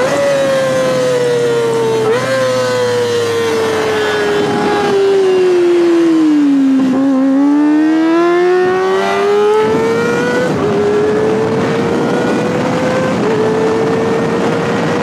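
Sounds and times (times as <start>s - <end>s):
motorcycle engine at high revs: 0.0s - 15.0s
wind rushing over microphone: 0.0s - 15.0s.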